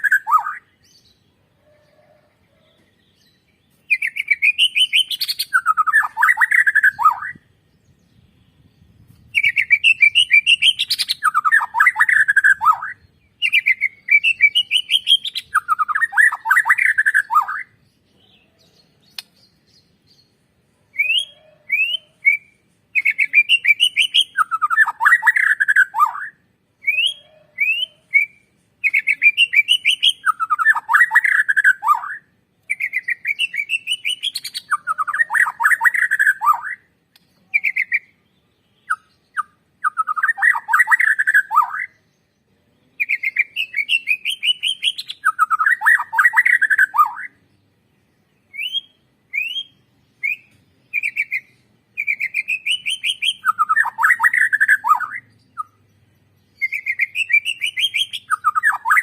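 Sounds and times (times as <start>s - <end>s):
songbird singing varied song: 0.0s - 59.0s.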